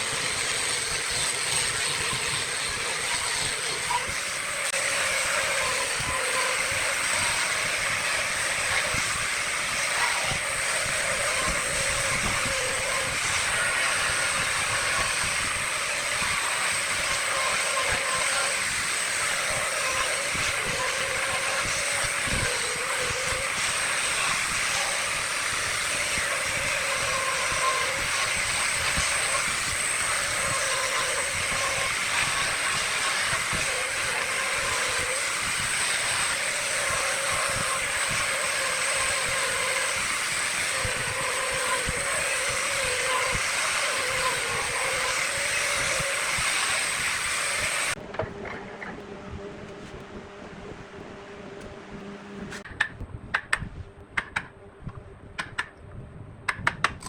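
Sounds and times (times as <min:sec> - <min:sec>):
wood lathe cutting wood: 0:00.0 - 0:52.6.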